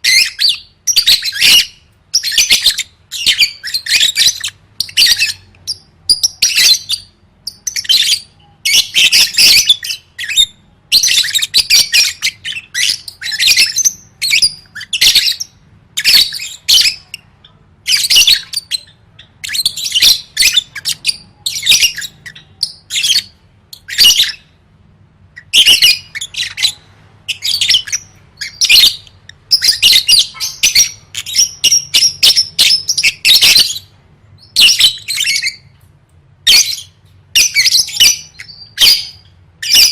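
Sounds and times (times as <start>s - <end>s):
bird chattering and squawking: 0.0s - 24.6s, 25.3s - 35.8s, 36.4s - 39.9s.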